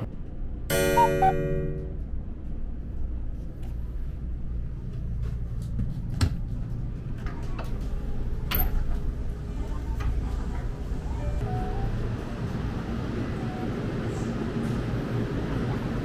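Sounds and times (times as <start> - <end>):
low rumble of standing train: 0.0 - 16.0.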